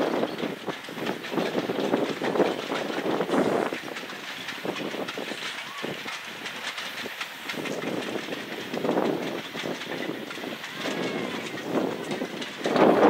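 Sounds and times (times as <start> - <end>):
train rolling rush: 0.0 - 13.0
wheels clicking over rail joints: 0.0 - 13.0.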